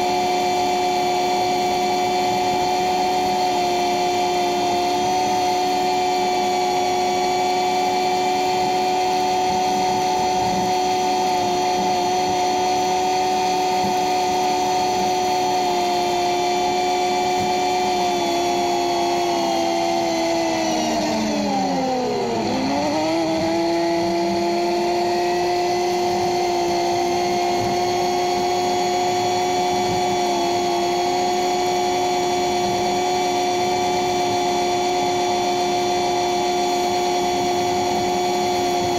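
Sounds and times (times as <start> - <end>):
vehicle engine whining: 0.0 - 38.9.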